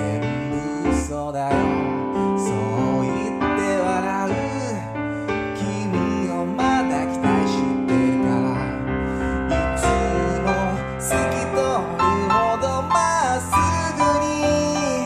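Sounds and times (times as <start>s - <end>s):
piano playing pop ballad: 0.0s - 15.0s.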